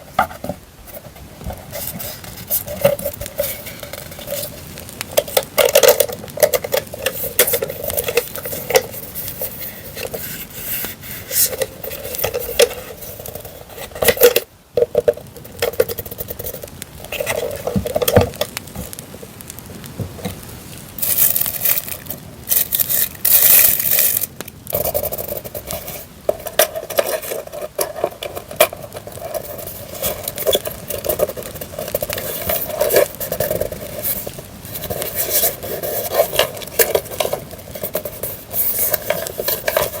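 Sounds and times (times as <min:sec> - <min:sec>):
paper rustling and scraping: 0:00.0 - 0:19.0, 0:21.0 - 0:40.0
campfire crackling: 0:00.0 - 0:40.0.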